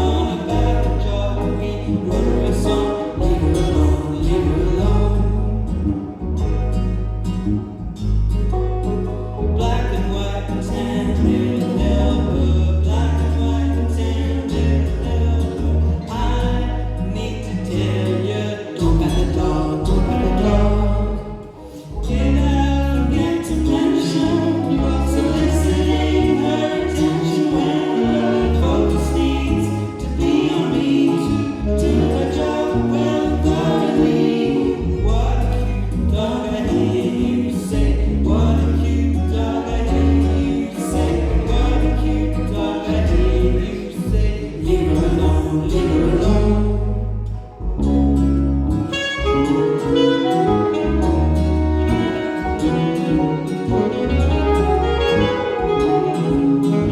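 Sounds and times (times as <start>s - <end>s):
lead and harmony vocals: 0.0s - 7.6s, 8.9s - 56.9s
bass line: 0.0s - 56.9s
live band playing acoustic song: 0.0s - 56.9s.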